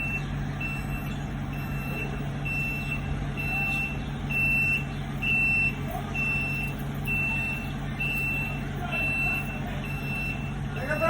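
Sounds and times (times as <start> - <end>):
diesel engine running: 0.0 - 11.0
truck reversing alarm beeping: 0.0 - 11.0.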